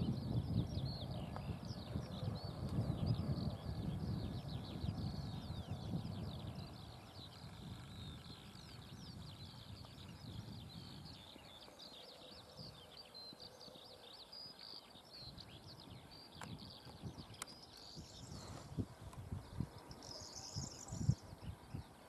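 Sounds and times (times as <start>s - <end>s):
songbirds twittering: 0.0s - 22.0s.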